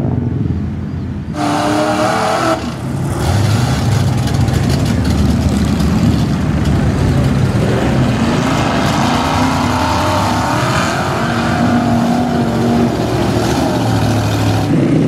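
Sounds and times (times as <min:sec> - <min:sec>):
atv engine noise: 0:00.0 - 0:15.0
truck engines deep rumble: 0:00.0 - 0:15.0.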